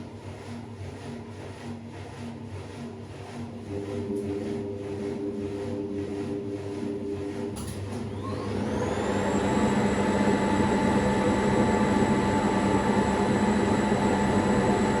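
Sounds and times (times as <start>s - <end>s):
washing machine motor whining: 2.8s - 15.0s.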